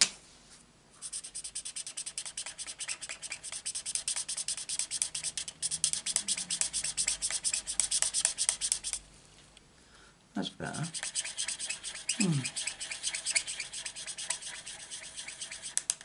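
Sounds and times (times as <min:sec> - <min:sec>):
marker scratching on cardstock: 0:01.0 - 0:09.0, 0:10.8 - 0:16.0.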